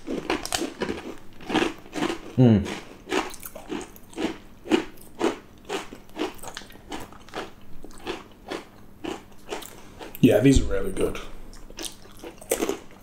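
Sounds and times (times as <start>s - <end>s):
cheese crisps being chewed: 0.0s - 10.2s, 11.5s - 13.0s.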